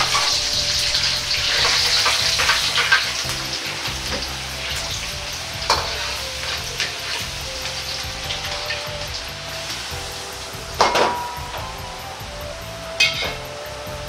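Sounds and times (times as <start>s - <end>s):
beans crackling in hot oil: 0.0s - 14.0s.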